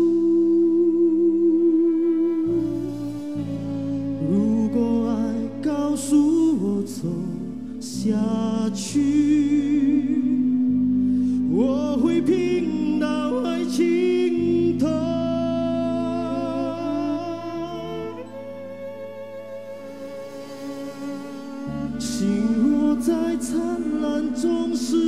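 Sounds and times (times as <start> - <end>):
man singing into a microphone: 0.0 - 3.4, 4.1 - 18.4, 21.6 - 25.0
bass chords: 0.0 - 25.0
violin notes with vibrato: 0.0 - 25.0.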